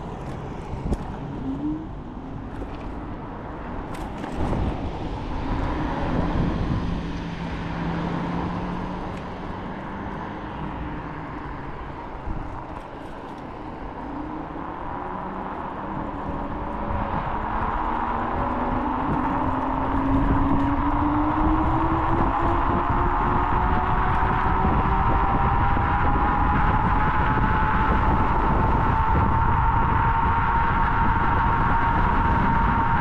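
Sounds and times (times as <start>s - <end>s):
tyre and road noise: 0.0s - 33.0s
wind rushing over camera: 0.0s - 33.0s.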